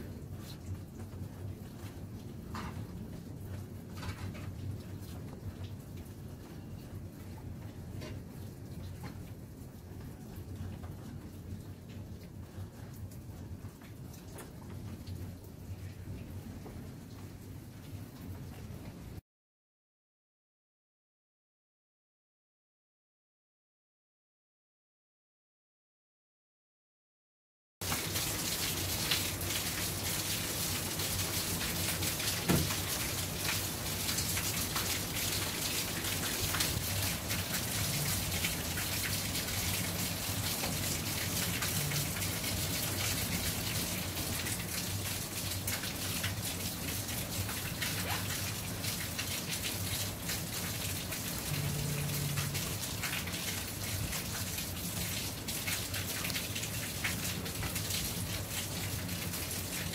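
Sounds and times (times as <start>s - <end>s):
steady rain falling: 0.0s - 19.2s, 27.8s - 59.9s.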